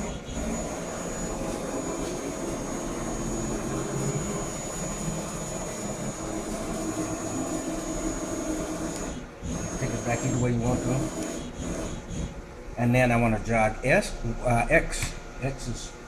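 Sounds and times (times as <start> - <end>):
lathe servo whine and hum: 0.0 - 16.0.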